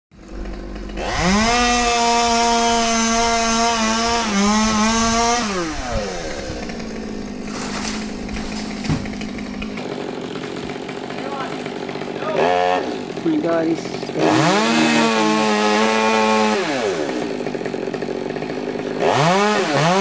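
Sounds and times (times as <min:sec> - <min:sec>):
chainsaw revving and idling: 0:00.1 - 0:20.0.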